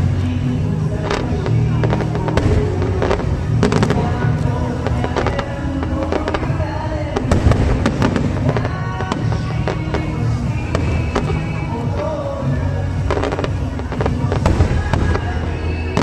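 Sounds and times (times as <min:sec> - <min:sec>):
fireworks bursting and crackling: 0:00.0 - 0:16.0
music with heavy bass: 0:00.0 - 0:16.0.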